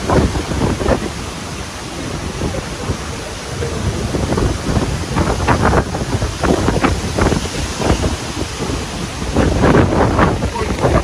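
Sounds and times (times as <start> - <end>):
sea surf: 0.0 - 11.0
strong wind on microphone: 0.0 - 11.0.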